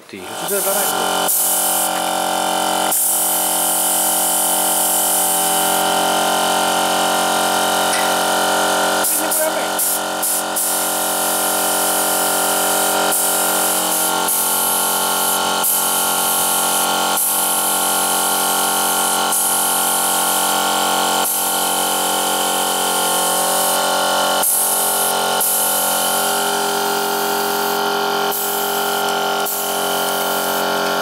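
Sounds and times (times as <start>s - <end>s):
spray gun hissing: 0.4s - 6.0s, 7.1s - 23.8s, 24.4s - 31.0s.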